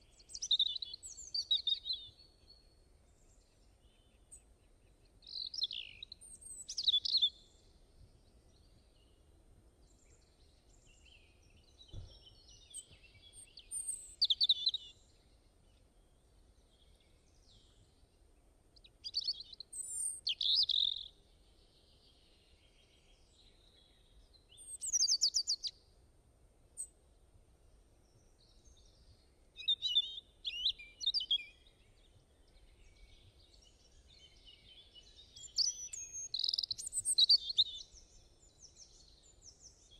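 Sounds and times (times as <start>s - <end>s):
songbird chirping and trilling: 0.0s - 25.9s, 28.0s - 39.9s
faint background hiss: 0.0s - 39.9s.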